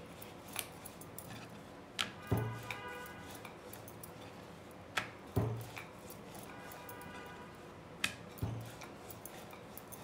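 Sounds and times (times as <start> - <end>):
rolling pin working dough: 0.0 - 10.0.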